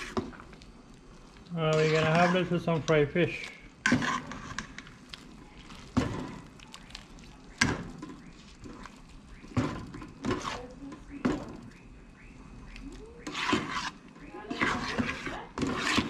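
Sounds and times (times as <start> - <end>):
spoon stirring rice in metal pot: 1.4 - 11.8, 12.7 - 16.0.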